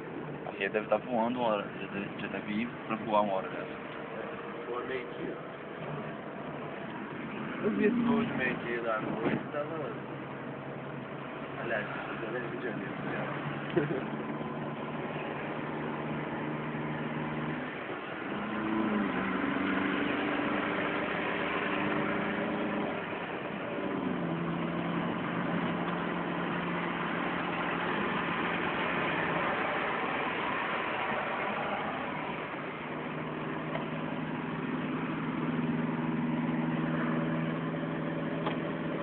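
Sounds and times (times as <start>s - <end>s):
car engine inside cabin: 0.0s - 39.0s.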